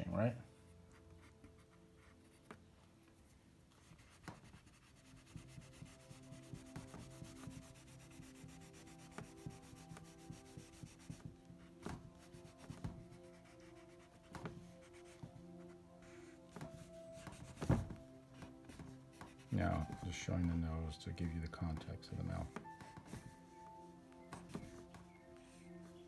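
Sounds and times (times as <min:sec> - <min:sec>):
drawing stick scratching paper: 0:00.9 - 0:02.6, 0:03.8 - 0:20.6, 0:21.5 - 0:26.0.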